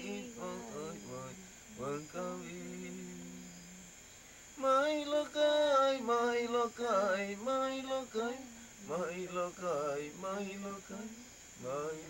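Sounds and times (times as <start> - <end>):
person chanting a song: 0.0 - 3.9, 4.6 - 12.0.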